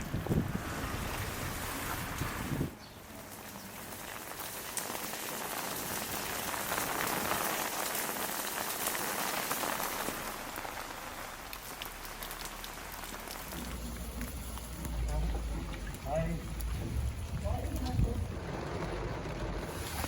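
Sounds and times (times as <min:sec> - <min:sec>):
rain on hard surfaces: 0:00.0 - 0:20.0.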